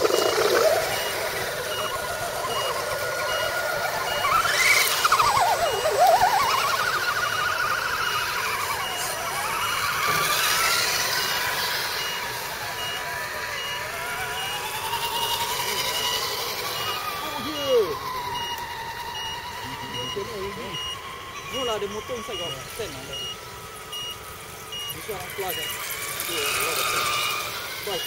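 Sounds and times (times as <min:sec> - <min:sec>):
faint high beep: 0:00.0 - 0:28.0
rc truck electric motors whining: 0:00.0 - 0:28.0.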